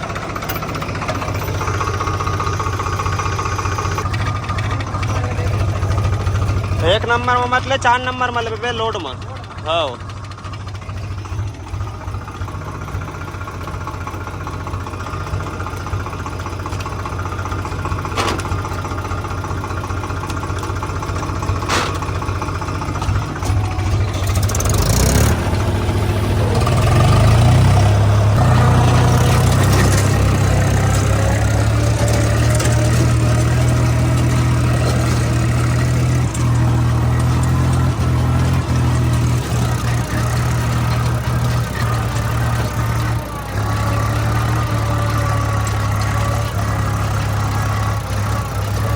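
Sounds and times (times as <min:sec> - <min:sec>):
diesel tractor engine under load: 0:00.0 - 0:48.9.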